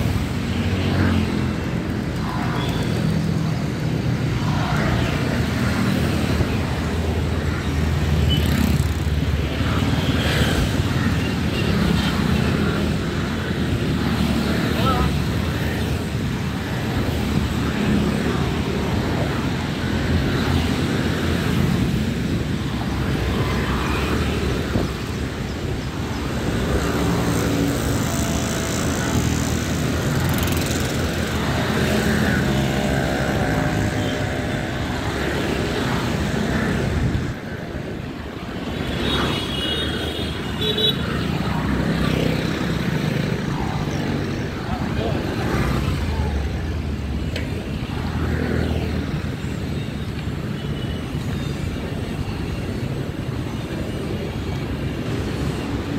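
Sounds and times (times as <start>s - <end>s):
traffic engines droning: 0.0s - 55.9s.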